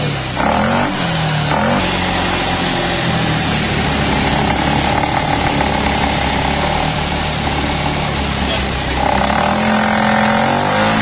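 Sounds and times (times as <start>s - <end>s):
motor scooter engine idling: 0.0s - 9.4s.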